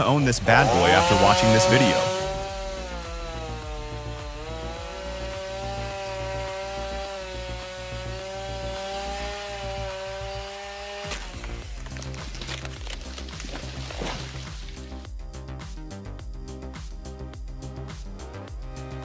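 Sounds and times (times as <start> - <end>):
chainsaw running at high revs: 0.0 - 15.4, 16.6 - 19.0.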